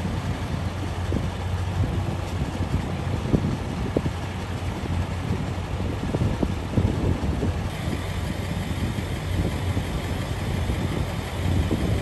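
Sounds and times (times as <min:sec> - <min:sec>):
engines idling: 0:00.0 - 0:12.0
wind buffeting microphone: 0:00.0 - 0:12.0.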